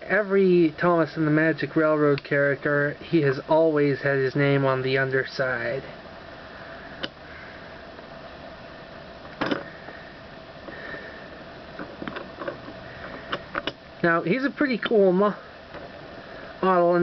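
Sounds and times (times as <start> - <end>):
faint hum: 0.0 - 17.0
room hiss: 0.0 - 17.0.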